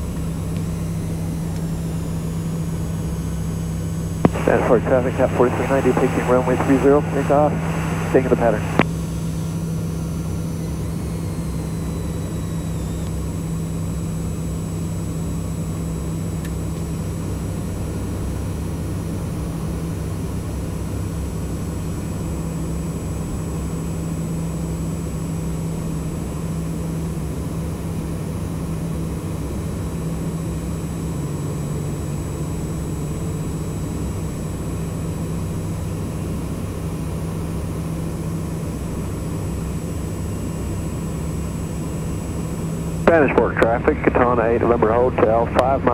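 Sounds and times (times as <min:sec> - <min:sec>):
turboprop engine cabin drone: 0:00.0 - 0:45.9.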